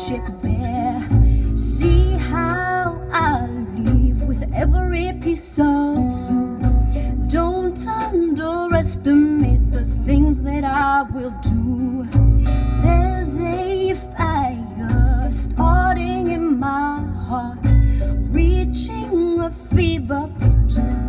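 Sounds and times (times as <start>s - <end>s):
guitar: 0.0s - 21.0s
woman singing: 0.0s - 21.0s.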